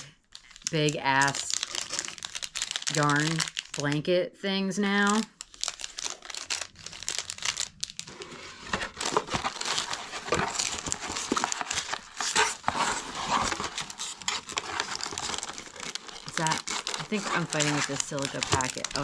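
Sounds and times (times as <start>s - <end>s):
plastic packaging crinkling: 0.0s - 4.0s, 5.0s - 19.0s.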